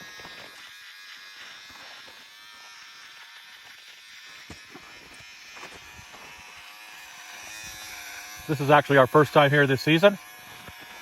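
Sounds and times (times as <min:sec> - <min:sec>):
electric shaver buzzing: 0:00.0 - 0:11.0.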